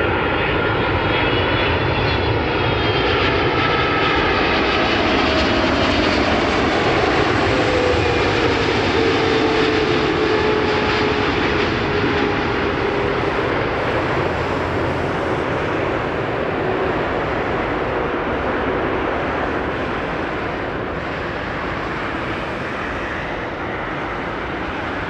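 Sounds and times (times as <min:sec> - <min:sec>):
jet airliner roar passing: 0:00.0 - 0:25.0.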